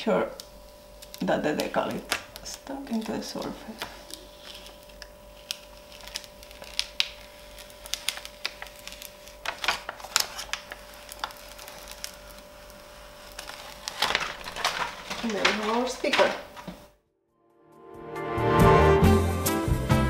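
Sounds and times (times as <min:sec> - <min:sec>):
tape peeling with crackles: 0:00.3 - 0:16.9.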